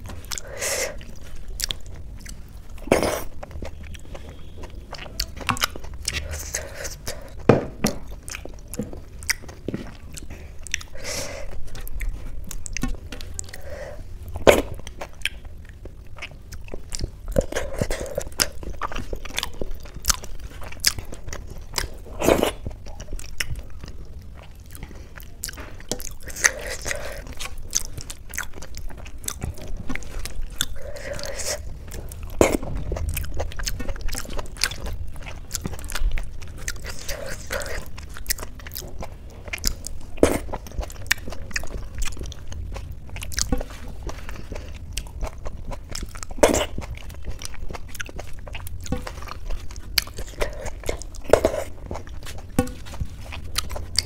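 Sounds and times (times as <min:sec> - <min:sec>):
chewing and mouth smacks: 0:00.0 - 0:13.6, 0:14.2 - 0:54.0.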